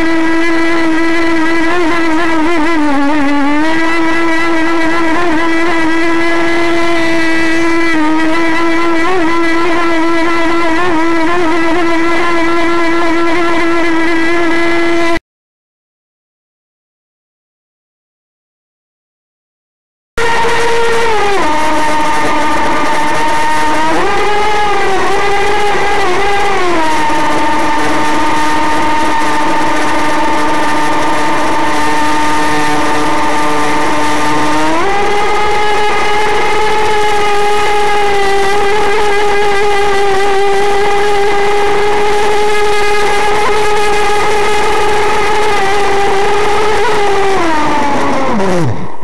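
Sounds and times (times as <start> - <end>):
model boat engine buzzing: 0.0 - 15.2, 20.2 - 49.0.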